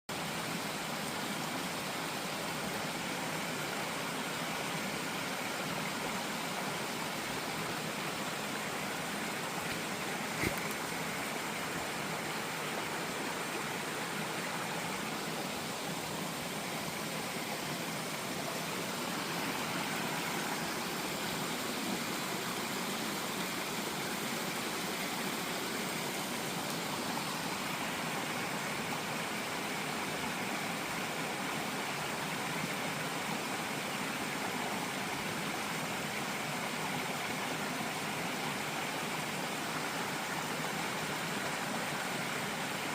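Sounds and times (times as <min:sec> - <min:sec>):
flowing water rushing: 0:00.1 - 0:42.9.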